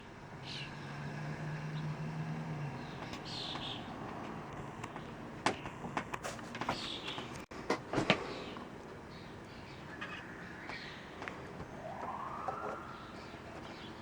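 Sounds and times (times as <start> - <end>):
small birds chirping: 0.0 - 7.5, 8.2 - 14.0.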